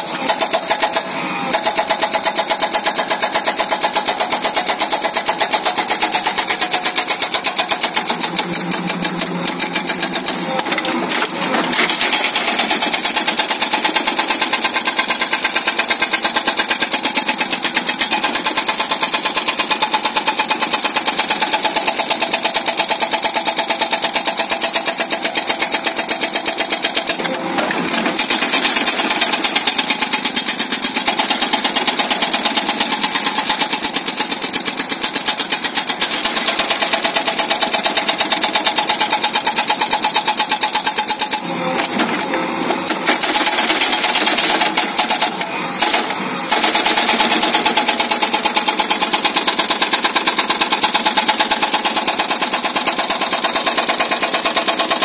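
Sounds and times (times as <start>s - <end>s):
hydraulic breaker hammering ground: 0.0s - 55.0s.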